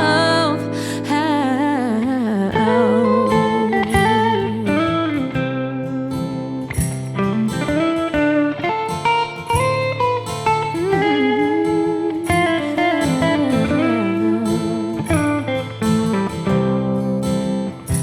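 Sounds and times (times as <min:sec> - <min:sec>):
lead guitar bending notes: 0:00.0 - 0:18.0
bass guitar: 0:02.6 - 0:18.0.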